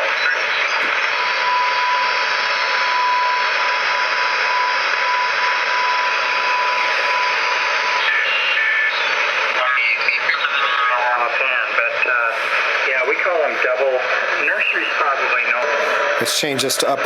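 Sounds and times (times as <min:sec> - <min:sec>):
radio band noise hiss: 0:00.0 - 0:17.0.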